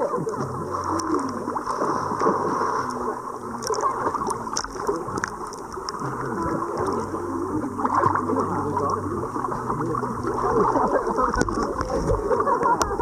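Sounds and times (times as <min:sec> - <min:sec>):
low steady hum: 0:00.0 - 0:13.0
seawater gurgling and sloshing: 0:00.0 - 0:13.0.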